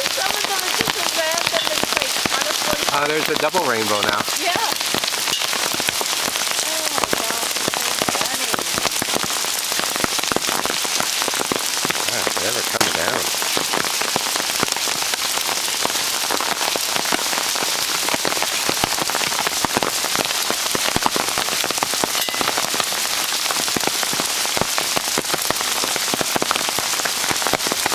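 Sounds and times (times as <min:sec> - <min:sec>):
hail pelting hard surfaces: 0:00.0 - 0:27.9.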